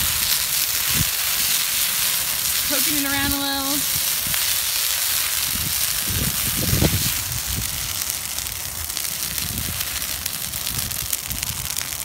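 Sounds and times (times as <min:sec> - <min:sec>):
burning branches hissing and crackling: 0:00.0 - 0:12.0.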